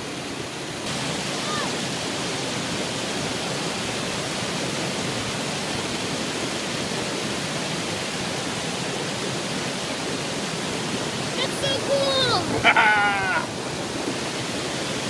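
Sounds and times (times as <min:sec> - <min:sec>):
waterfall water rushing: 0:00.0 - 0:15.0.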